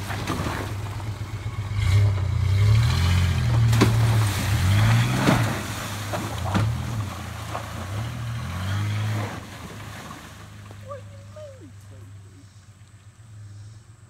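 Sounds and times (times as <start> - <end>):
wheels splashing through mud: 0.0 - 13.1
truck engine revving: 0.0 - 13.8.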